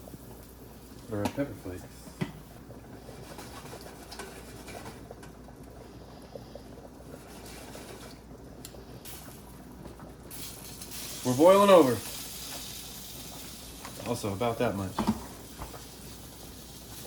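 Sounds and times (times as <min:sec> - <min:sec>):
pot bubbling on stovetop: 0:00.0 - 0:17.0.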